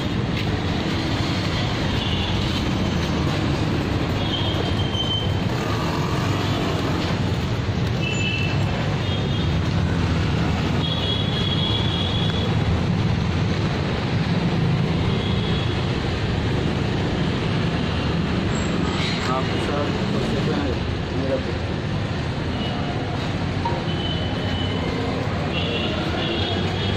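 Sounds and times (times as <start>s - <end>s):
street traffic rumble: 0.0s - 26.9s.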